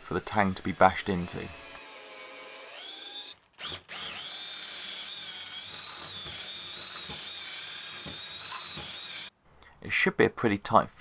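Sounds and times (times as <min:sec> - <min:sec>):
cordless drill boring wood: 0:00.0 - 0:09.3.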